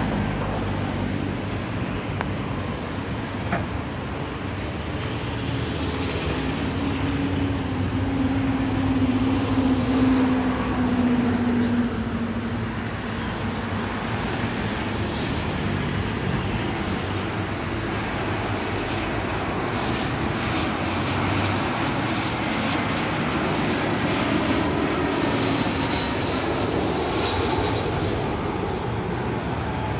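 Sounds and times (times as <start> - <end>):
jet airliner engines droning: 0.0 - 29.9
road traffic: 0.0 - 29.9.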